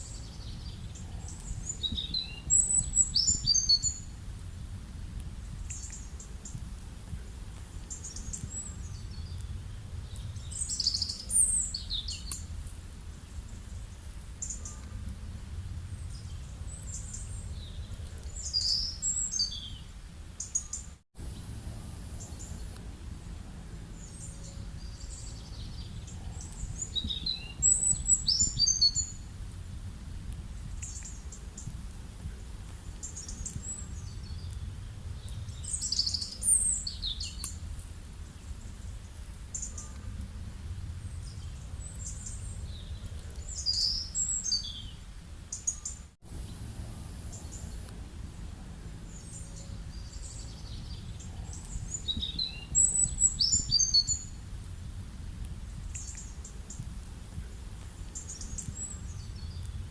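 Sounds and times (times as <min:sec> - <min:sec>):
birds chirping: 0:00.0 - 0:04.6, 0:05.4 - 0:29.3, 0:30.6 - 0:54.4, 0:55.8 - 0:59.9
steady low rumble: 0:00.0 - 0:20.5, 0:21.2 - 0:59.9.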